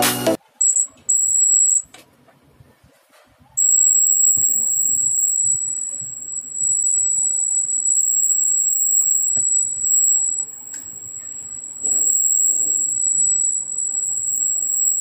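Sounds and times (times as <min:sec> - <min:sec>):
high-pitched electronic buzzer tone: 0:00.6 - 0:01.8, 0:03.6 - 0:15.0.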